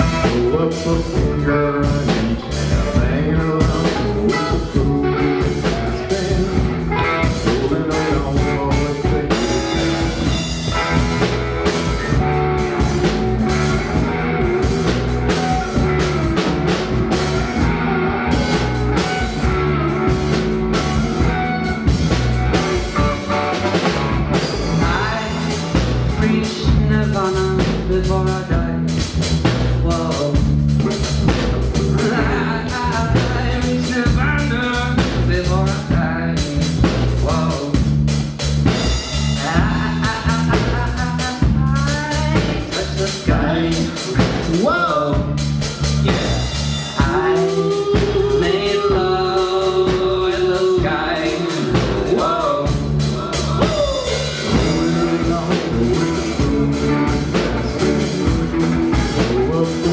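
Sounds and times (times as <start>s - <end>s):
drum kit beat: 0.0s - 59.9s
electric bass: 0.0s - 59.9s
electric guitar: 0.0s - 59.9s.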